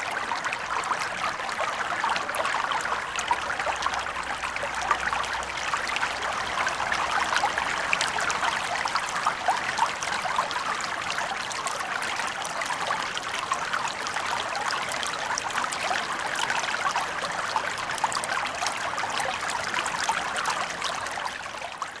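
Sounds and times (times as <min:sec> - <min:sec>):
babbling stream: 0:00.0 - 0:22.0.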